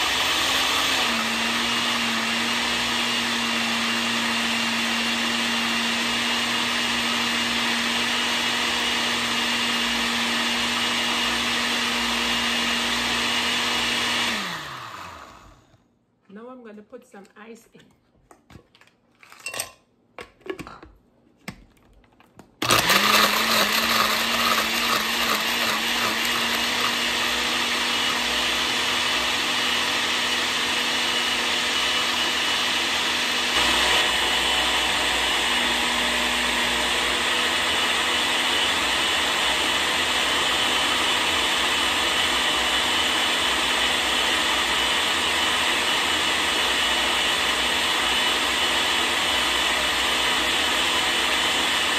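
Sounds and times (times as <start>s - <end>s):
blender motor crushing ice: 0.0s - 15.8s, 22.6s - 51.9s.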